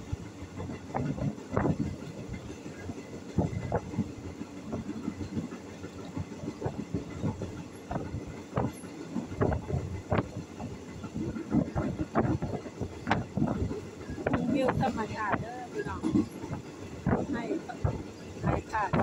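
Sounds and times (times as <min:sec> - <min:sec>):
train carriage rumbling: 0:00.0 - 0:19.0.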